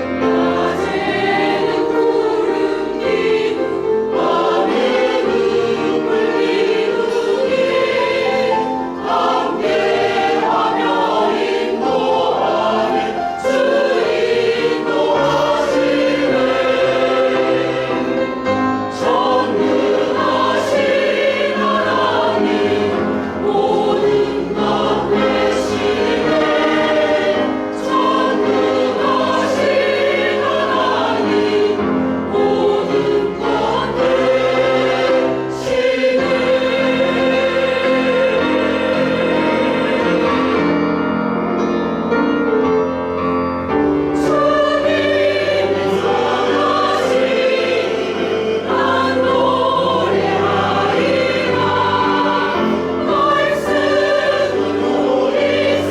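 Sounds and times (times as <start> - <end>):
choir singing a hymn: 0.0 - 55.9.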